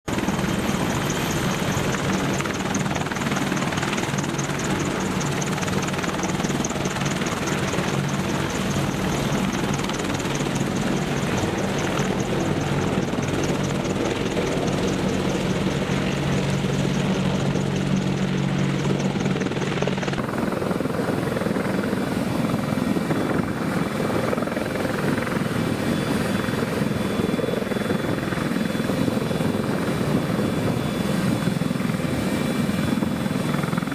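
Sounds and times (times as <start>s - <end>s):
helicopter rotor and engine: 0.0s - 33.9s.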